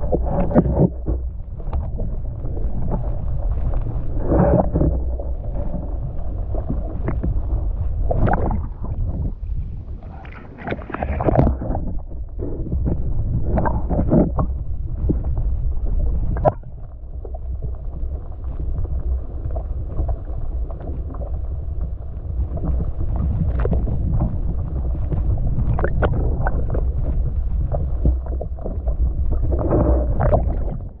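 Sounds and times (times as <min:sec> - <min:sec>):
water sloshing and splashing: 0:00.0 - 0:21.6, 0:22.2 - 0:31.0
small knocks and clicks underwater: 0:00.0 - 0:31.0
underwater low rumble: 0:00.0 - 0:31.0.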